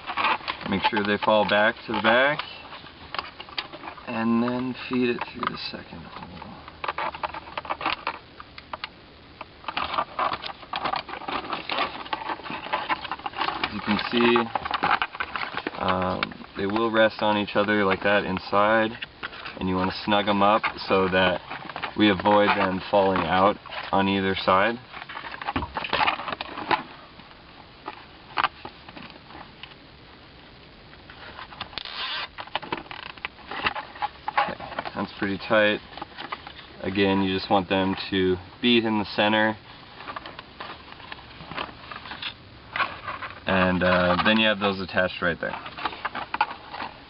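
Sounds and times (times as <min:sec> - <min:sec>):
plastic rustling: 0:00.0 - 0:29.8, 0:31.0 - 0:47.0.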